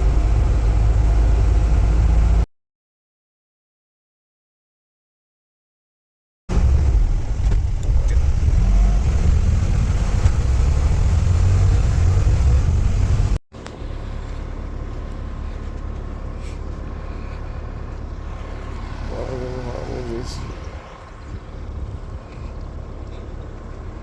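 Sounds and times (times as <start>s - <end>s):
car road and engine rumble: 0.0s - 2.5s, 6.5s - 24.0s.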